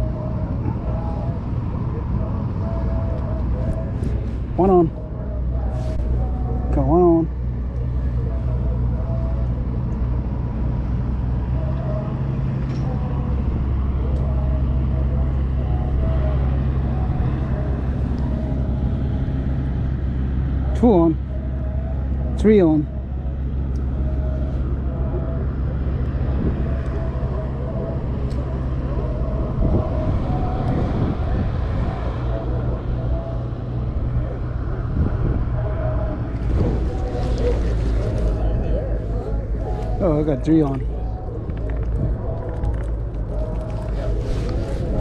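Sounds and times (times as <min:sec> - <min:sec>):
low engine drone: 0:00.0 - 0:45.0.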